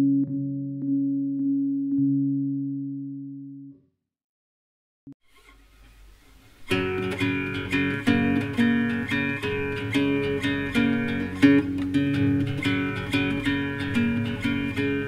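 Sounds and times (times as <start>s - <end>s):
plucked guitar music: 0.0s - 3.8s, 6.6s - 15.0s.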